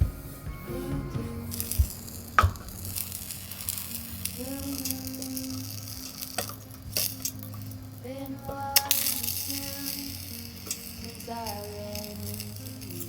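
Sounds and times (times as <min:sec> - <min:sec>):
food sizzling in a pan: 0:01.6 - 0:13.0.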